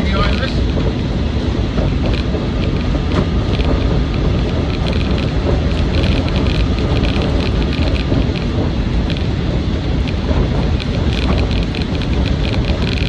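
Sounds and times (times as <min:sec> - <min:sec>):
diesel engine running: 0:00.0 - 0:13.0
light rattling ticks: 0:00.0 - 0:13.0
road and tyre noise: 0:00.0 - 0:13.0.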